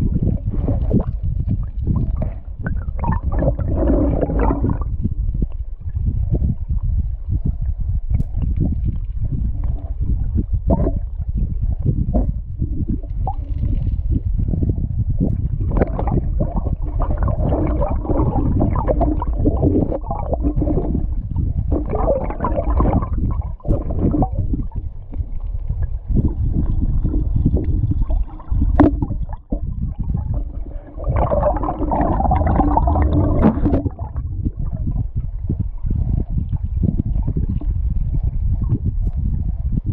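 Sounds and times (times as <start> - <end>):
muffled underwater river current: 0.0 - 39.9.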